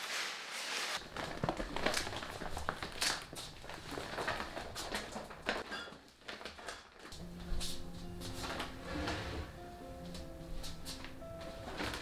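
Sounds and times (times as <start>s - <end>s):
plastic bag rustling: 0.0s - 9.6s, 10.6s - 12.0s.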